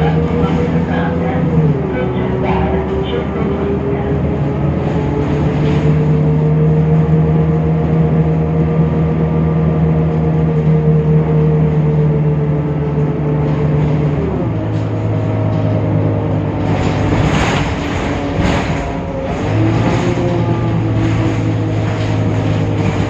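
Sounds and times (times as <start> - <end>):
bus diesel engine humming: 0.0 - 23.0.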